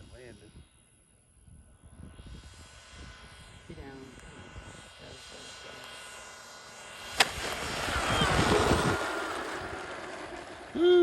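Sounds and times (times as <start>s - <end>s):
model jet fan rushing with whine: 0.0s - 10.8s.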